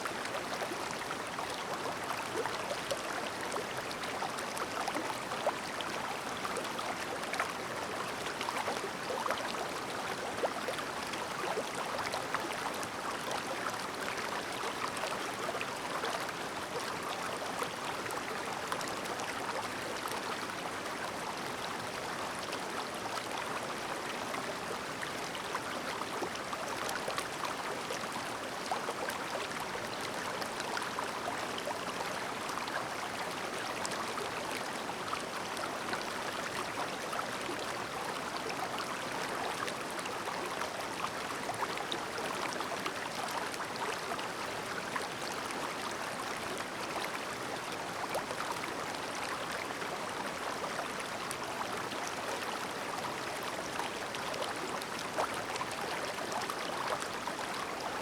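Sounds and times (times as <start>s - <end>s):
river babbling: 0.0s - 58.0s
water trickles and splashes: 0.0s - 58.0s.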